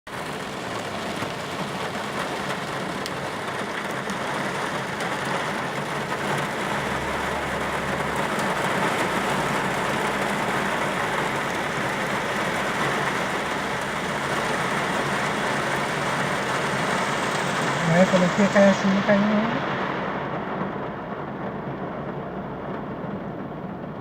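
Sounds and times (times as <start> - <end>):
rain falling steadily: 0.1 - 24.0.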